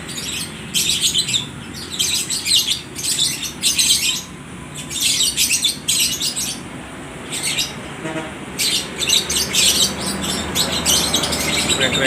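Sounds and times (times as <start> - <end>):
lovebirds chattering shrilly: 0.0 - 12.0.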